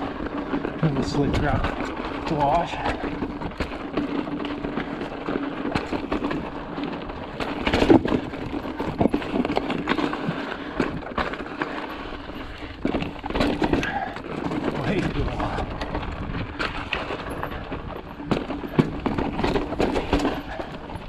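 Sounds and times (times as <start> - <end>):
bike knocking and rattling: 0.0 - 21.0
bike tyres on rock and grit: 0.0 - 21.0.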